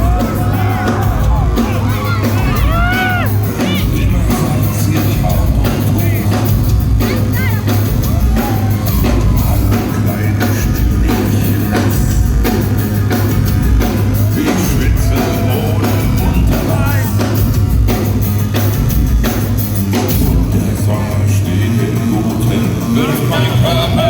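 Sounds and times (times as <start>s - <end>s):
heavy bass line: 0.0s - 24.0s
live industrial metal band: 0.0s - 24.0s
pounding drum beat: 0.0s - 24.0s.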